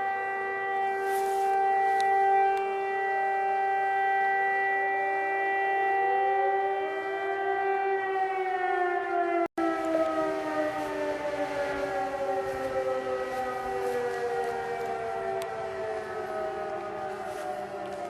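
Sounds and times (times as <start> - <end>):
warning siren winding down: 0.0 - 18.0.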